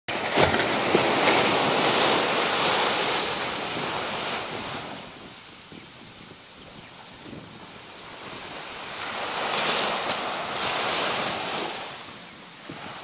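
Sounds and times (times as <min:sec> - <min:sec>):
surf washing onto beach: 0:00.1 - 0:06.4, 0:07.0 - 0:13.0
wind on microphone: 0:00.1 - 0:13.0.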